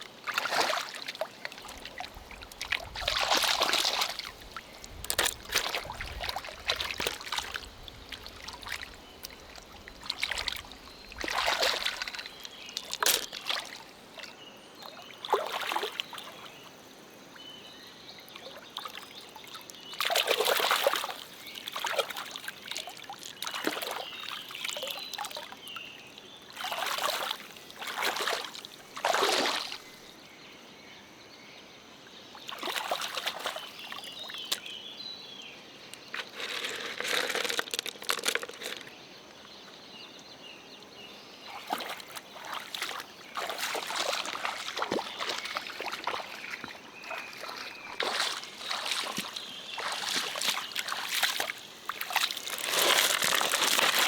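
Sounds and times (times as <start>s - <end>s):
water splashing and sloshing: 0.0s - 16.6s, 19.6s - 30.2s, 32.5s - 34.8s, 35.8s - 39.2s, 41.4s - 54.0s
stream water trickling: 0.0s - 30.3s, 32.0s - 54.0s.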